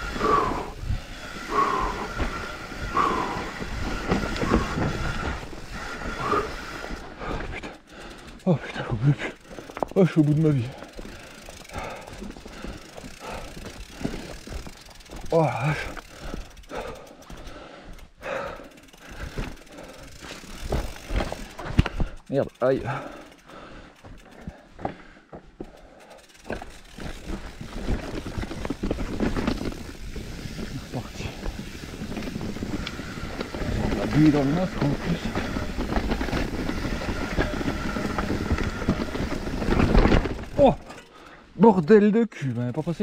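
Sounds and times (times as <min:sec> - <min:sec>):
rider panting: 0:00.0 - 0:41.6
mountain bike rattling over rocks: 0:00.0 - 0:42.0, 0:42.6 - 0:43.0.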